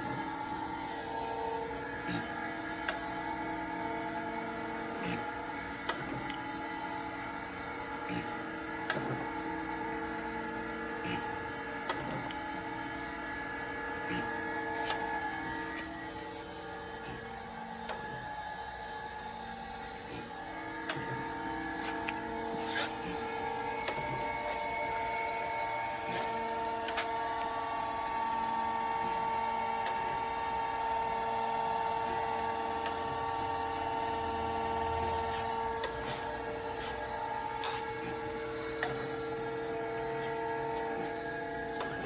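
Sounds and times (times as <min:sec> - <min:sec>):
grinder motor whine: 0:00.0 - 0:42.0.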